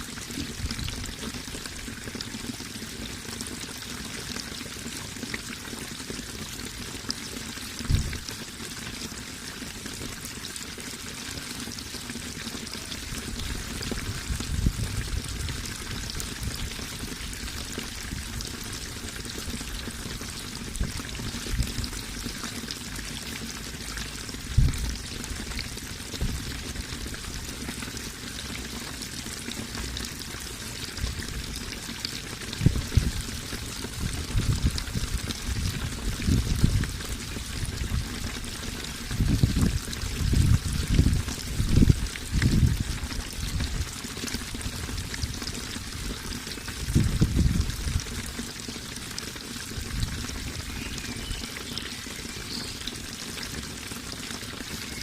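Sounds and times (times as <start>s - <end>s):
water pouring and trickling: 0.0s - 55.0s.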